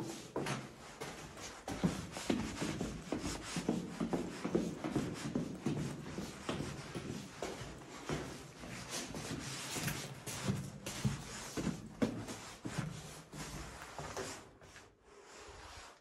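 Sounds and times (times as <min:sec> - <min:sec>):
footsteps scuffing on gritty floor: 0:00.0 - 0:14.9.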